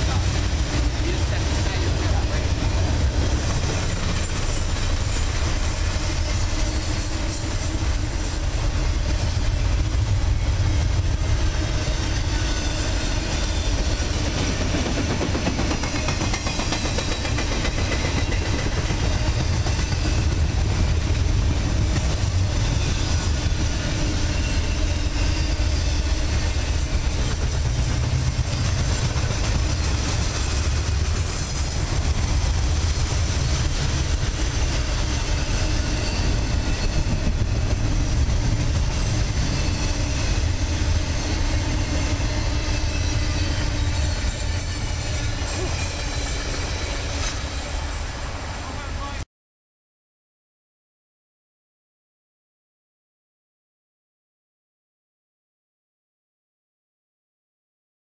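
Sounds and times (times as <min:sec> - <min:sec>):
train wheels rolling on rails: 0:00.0 - 0:49.2.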